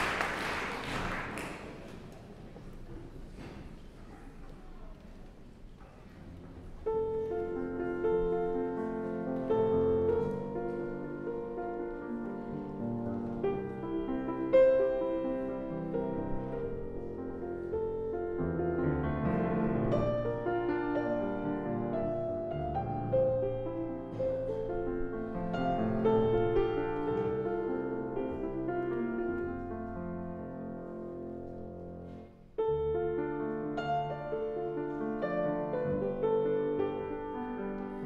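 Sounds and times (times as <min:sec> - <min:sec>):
grand piano classical passage: 0:00.0 - 0:38.0.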